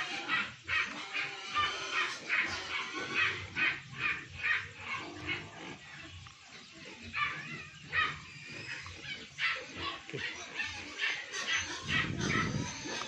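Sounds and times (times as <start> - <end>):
dog yelping and barking: 0.0 - 5.5, 6.8 - 13.0.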